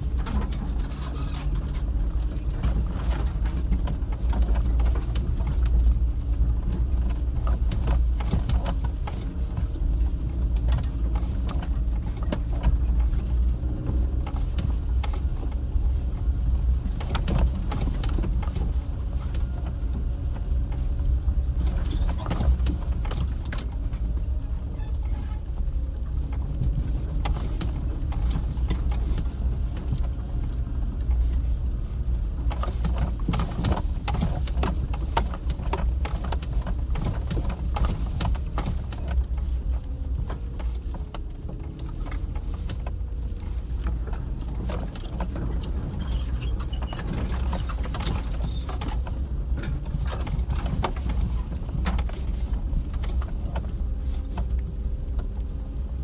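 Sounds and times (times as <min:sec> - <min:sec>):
knocks and rattles from bumps: 0:00.0 - 0:56.0
low engine rumble: 0:00.0 - 0:56.0.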